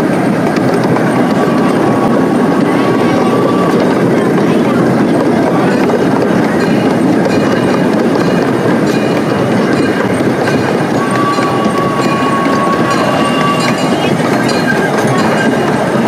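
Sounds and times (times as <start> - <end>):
ride-on train rumble and rattle: 0.0 - 16.0.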